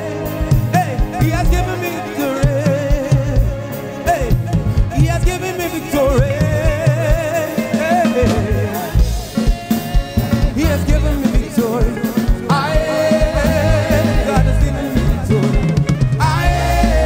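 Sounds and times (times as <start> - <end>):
drum kit: 0.0 - 17.0
person singing with vibrato: 0.0 - 17.0.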